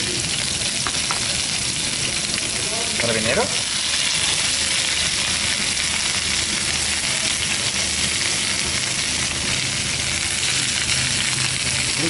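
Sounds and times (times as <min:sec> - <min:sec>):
prawns sizzling in hot oil: 0:00.0 - 0:12.0.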